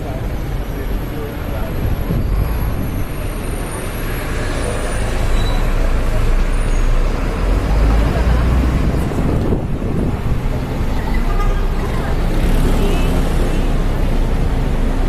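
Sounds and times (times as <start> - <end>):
bus engine rumble: 0.0 - 15.0
street traffic noise: 0.0 - 15.0.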